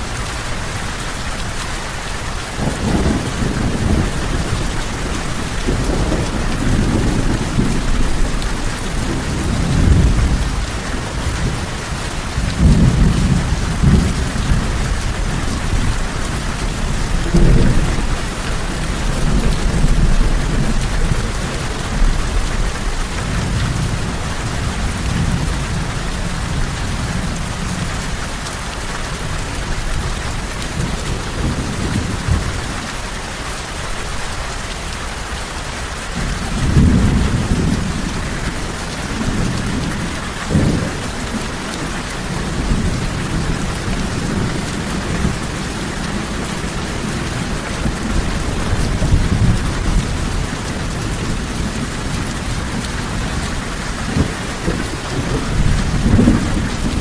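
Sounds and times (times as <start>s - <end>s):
thunder rumbling: 0.0s - 28.4s, 29.2s - 32.8s, 36.2s - 57.0s
heavy rain falling: 0.0s - 57.0s.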